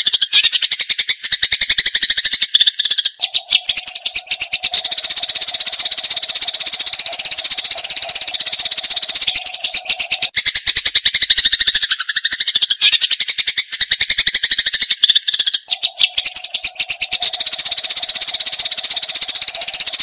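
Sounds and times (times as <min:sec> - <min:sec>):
sparrows chattering: 0:00.0 - 0:20.0.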